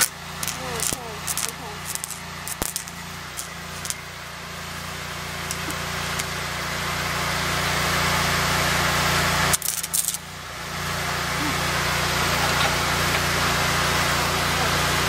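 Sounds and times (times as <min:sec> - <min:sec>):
welding arc crackling and sizzling: 0:00.0 - 0:15.0
welding machine humming: 0:00.0 - 0:15.0.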